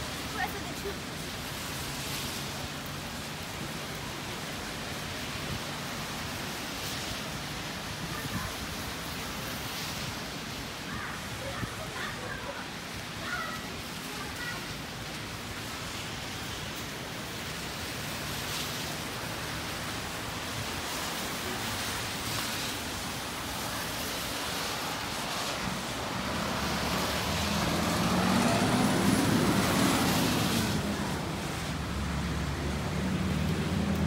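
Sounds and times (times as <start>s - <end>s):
heavy rain on wet pavement: 0.0s - 34.0s
vehicle on wet road: 0.0s - 34.0s.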